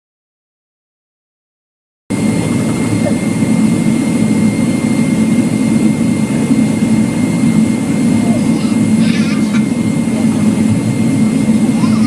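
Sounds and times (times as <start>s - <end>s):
jet engine hum in cabin: 2.1s - 12.0s
thin steady whine: 2.1s - 12.0s.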